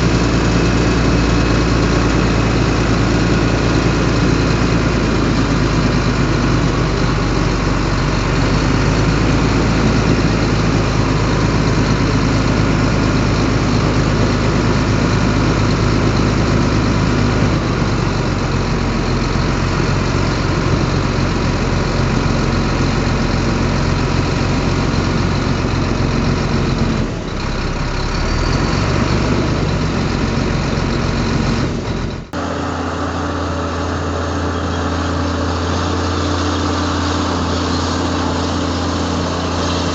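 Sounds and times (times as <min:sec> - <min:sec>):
heavy machinery diesel engine: 0:00.0 - 0:39.9
low engine drone: 0:00.0 - 0:39.9.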